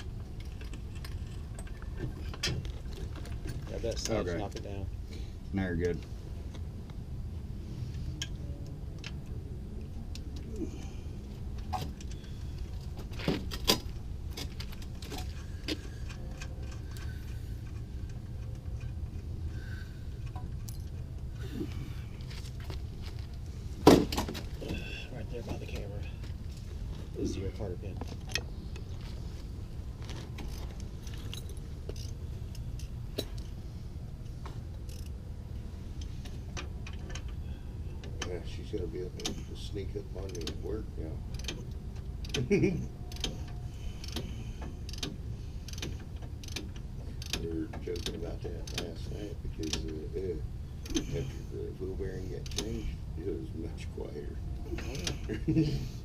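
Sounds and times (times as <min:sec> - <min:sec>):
steady low hum: 0:00.0 - 0:56.0
steady low rumble: 0:00.0 - 0:56.0.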